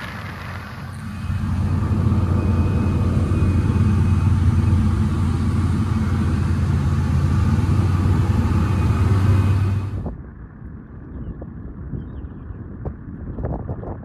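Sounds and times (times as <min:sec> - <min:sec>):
seaplane engine droning: 0:00.0 - 0:13.4.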